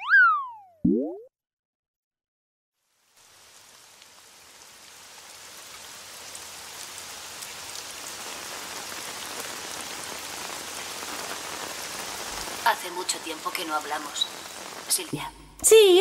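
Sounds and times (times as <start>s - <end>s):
steady rain falling: 2.8s - 16.0s.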